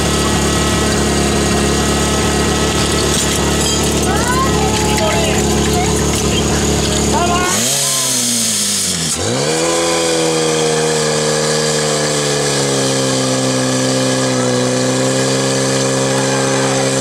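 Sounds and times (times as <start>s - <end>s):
pump engine running at high revs: 0.0s - 17.0s.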